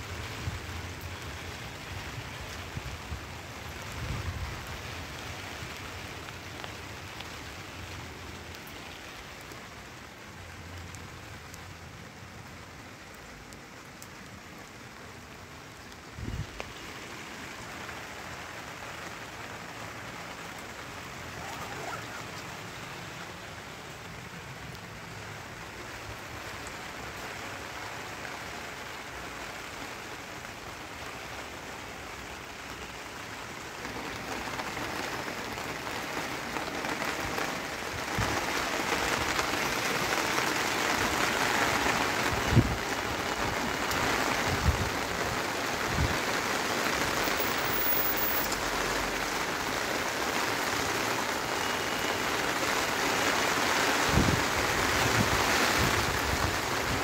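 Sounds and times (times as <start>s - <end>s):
rain falling on rooftop: 0.0s - 57.0s.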